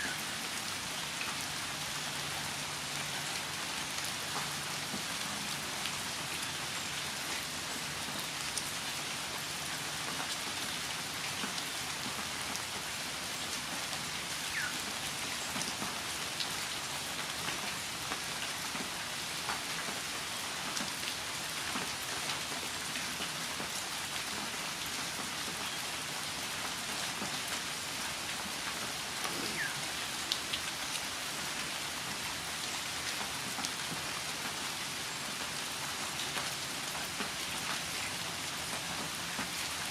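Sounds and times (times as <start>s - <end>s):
rain pattering: 0.1s - 39.9s.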